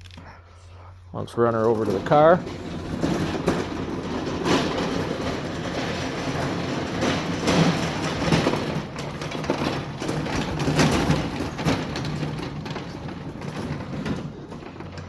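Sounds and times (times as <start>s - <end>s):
cart casters rumbling: 1.2s - 15.0s
tools rattling on cart: 1.2s - 15.0s.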